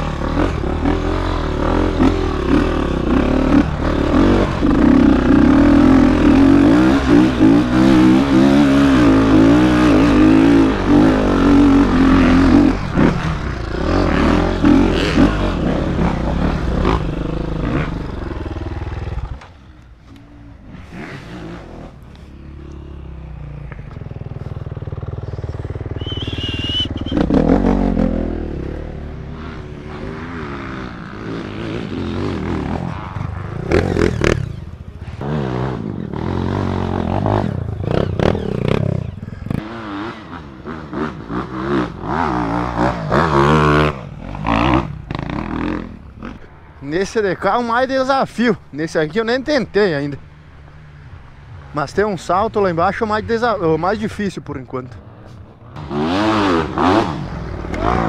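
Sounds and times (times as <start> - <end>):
dirt bike engine revving loud: 0.0 - 19.6, 20.3 - 46.6, 55.7 - 58.0
trail bikes revving in surges: 0.0 - 58.0.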